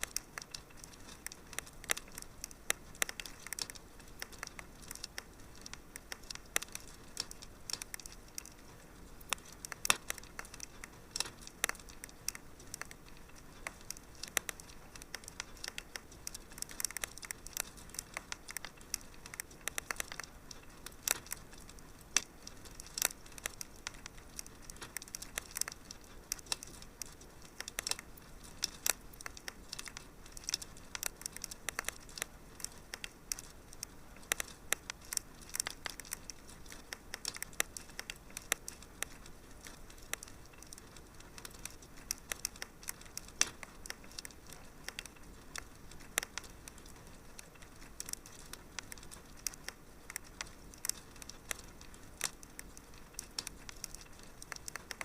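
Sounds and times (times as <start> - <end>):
soft steady hiss: 0.0 - 55.0
wood fire crackling: 0.0 - 55.0.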